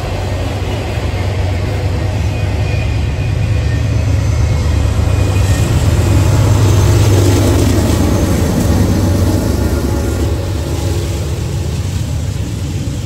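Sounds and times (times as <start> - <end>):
diesel locomotive passing: 0.0 - 13.0.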